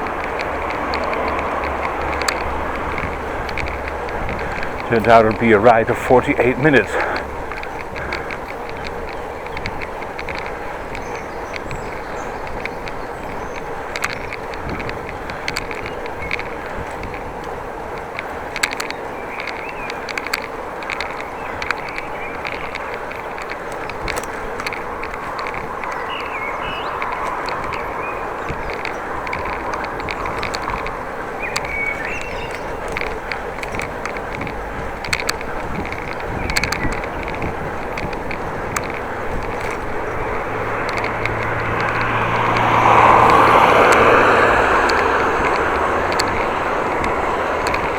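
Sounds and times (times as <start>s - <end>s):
bicycle tyres rumbling: 0.0s - 47.9s
bike clicks and rattles: 0.0s - 47.9s.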